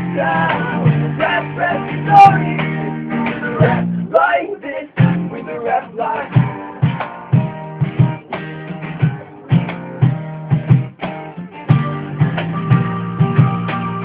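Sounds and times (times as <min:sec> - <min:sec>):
steady drum beat: 0:00.0 - 0:14.0
strummed guitar: 0:00.0 - 0:14.0.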